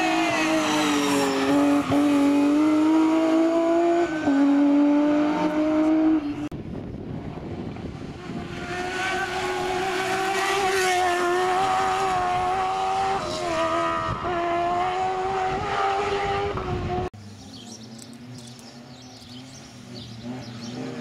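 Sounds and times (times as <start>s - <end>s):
race car engine at high revs: 0.0s - 6.5s, 7.4s - 17.2s, 19.1s - 21.0s.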